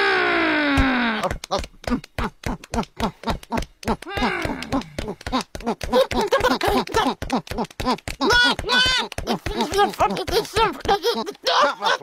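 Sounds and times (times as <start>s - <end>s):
cartoon penguin voices chattering: 1.0s - 12.0s.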